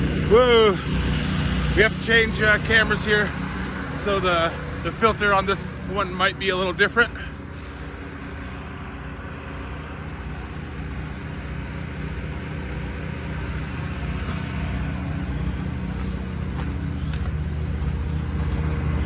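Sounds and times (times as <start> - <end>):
large engine running: 0.0 - 19.0.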